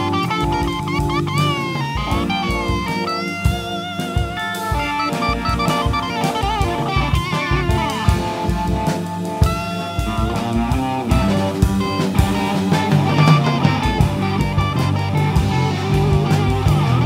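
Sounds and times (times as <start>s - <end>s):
drum kit beat: 0.0s - 17.0s
sliding electric guitar: 0.0s - 17.0s.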